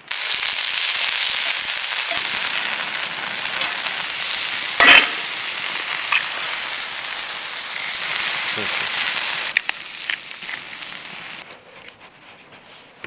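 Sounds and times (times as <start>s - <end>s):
egg sizzling in hot pan: 0.0s - 11.4s
vegetables sizzling in a skillet: 0.0s - 11.4s.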